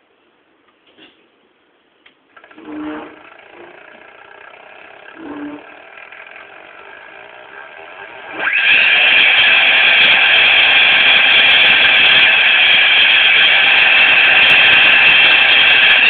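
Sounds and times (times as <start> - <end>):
drive motor whine: 2.4 - 16.0.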